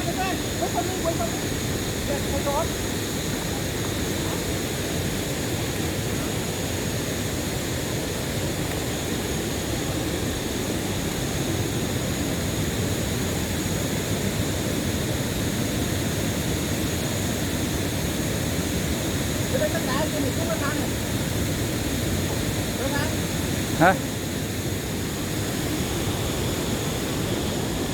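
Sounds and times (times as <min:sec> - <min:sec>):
waterfall roaring: 0:00.0 - 0:27.9.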